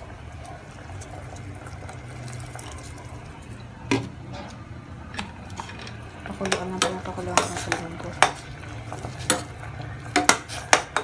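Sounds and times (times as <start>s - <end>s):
pot simmering and bubbling: 0.0s - 11.0s.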